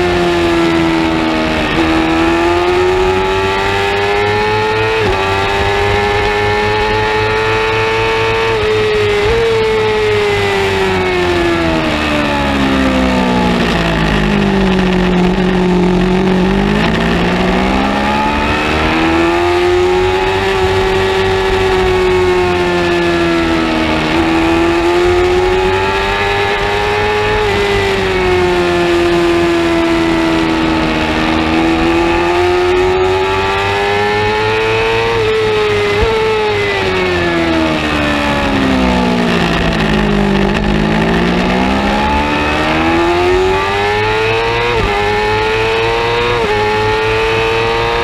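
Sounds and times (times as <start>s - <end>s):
motorcycle engine at high revs: 0.0s - 48.0s.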